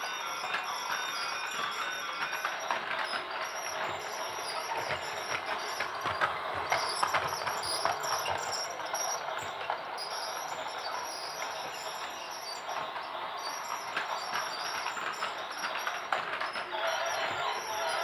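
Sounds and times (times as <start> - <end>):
toy train rattling: 0.0 - 18.0.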